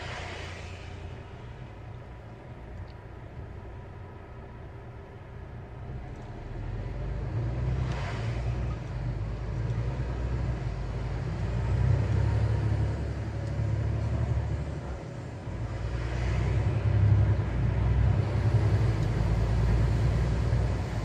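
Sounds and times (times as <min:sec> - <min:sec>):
lorry engine and road rumble: 0:00.0 - 0:21.0.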